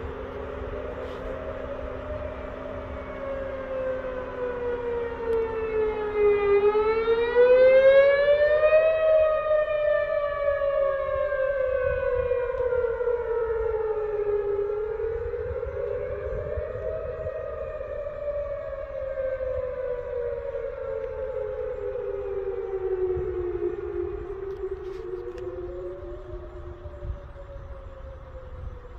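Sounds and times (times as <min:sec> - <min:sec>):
lower steady tone: 0:00.0 - 0:28.9
warning siren wailing: 0:00.0 - 0:28.9.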